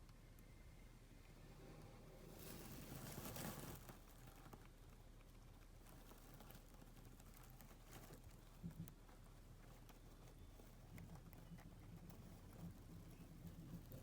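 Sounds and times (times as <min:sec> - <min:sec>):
hamster rustling and pattering: 0:02.2 - 0:14.0.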